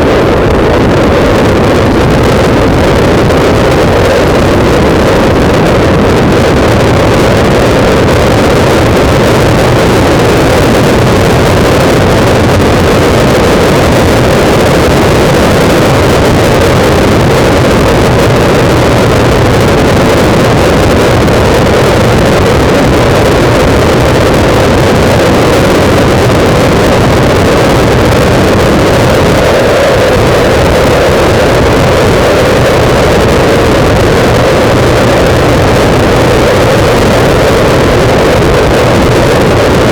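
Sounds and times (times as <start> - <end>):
low steady drone: 0.0 - 39.9
wind buffeting microphone: 0.0 - 39.9.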